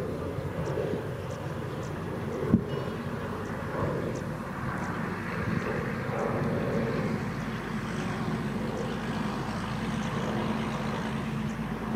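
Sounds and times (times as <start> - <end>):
distant motor rumbling: 0.0 - 11.9.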